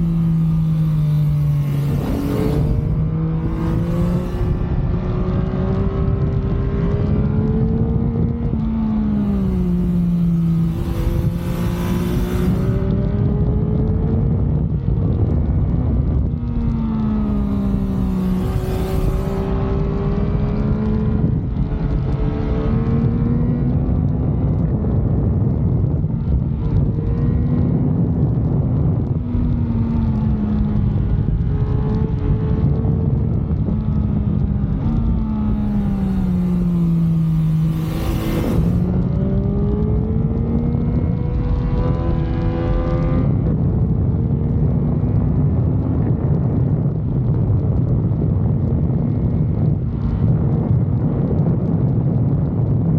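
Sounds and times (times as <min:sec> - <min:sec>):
motorcycle engine and exhaust: 0:00.0 - 0:52.9.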